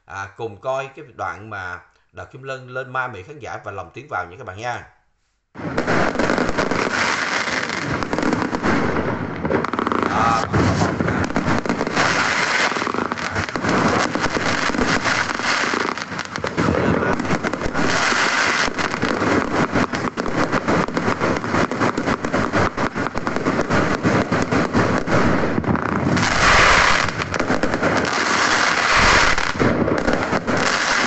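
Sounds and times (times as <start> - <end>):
fireworks crackling and banging: 0.0 - 4.8, 5.5 - 31.0.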